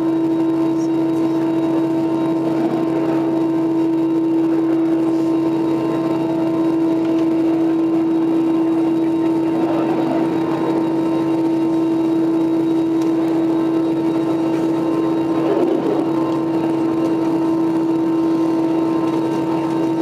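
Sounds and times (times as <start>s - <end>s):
aircraft cabin hum: 0.0s - 20.0s.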